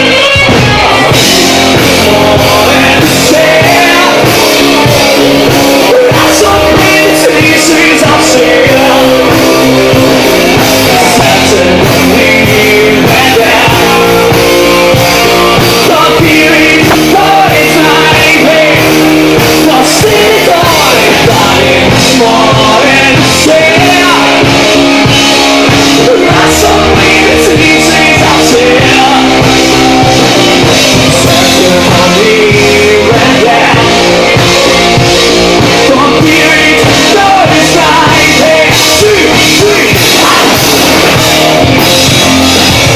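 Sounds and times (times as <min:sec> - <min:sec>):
person singing: 0:00.0 - 0:42.9
rock band guitars and bass: 0:00.0 - 0:42.9.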